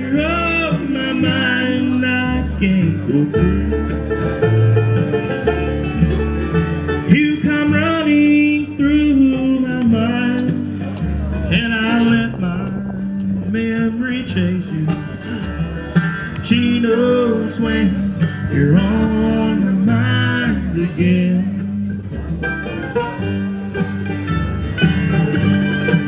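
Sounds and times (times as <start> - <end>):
acoustic guitar: 0.0 - 26.0
banjo: 0.0 - 26.0
mandolin: 0.0 - 26.0
plucked upright bass: 0.0 - 26.0.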